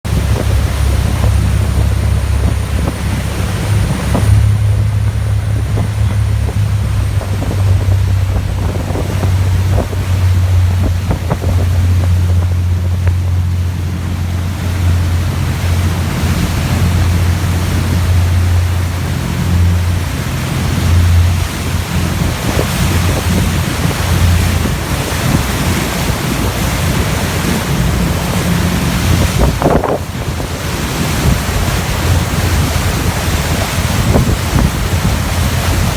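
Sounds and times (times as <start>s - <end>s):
low steady drone: 0.0s - 35.9s
sea water rushing: 0.0s - 35.9s
wind buffeting microphone: 0.0s - 35.9s.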